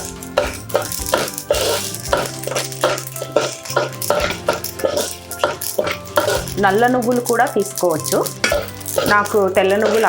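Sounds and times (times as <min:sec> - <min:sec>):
spatula scraping seeds in a pan: 0:00.0 - 0:10.0.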